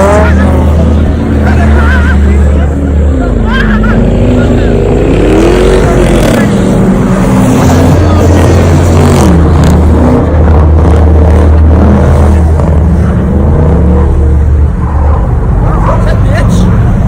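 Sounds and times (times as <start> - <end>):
car engine revving: 0.0 - 17.0
steady low drone: 0.1 - 17.0.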